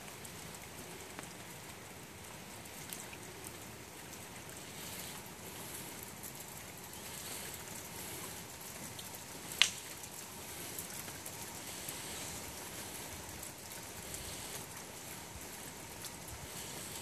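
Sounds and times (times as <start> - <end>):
campfire crackling: 0.0 - 17.0
soft steady hiss: 0.0 - 17.0.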